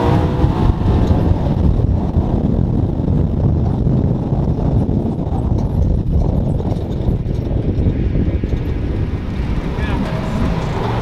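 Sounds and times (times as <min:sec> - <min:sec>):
vehicle engine running: 0:00.0 - 0:11.0
wind buffeting microphone: 0:00.0 - 0:11.0.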